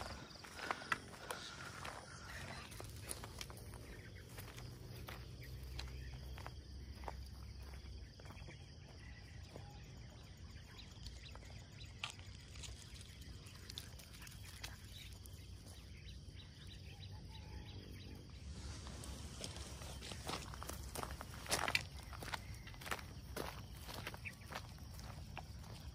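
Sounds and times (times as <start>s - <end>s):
faint chirps: 0.0s - 25.9s.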